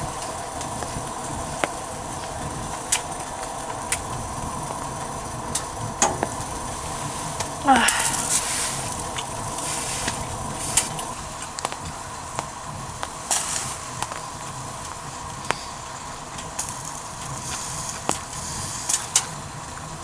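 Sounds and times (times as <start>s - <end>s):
food frying in a pan: 0.0s - 20.0s.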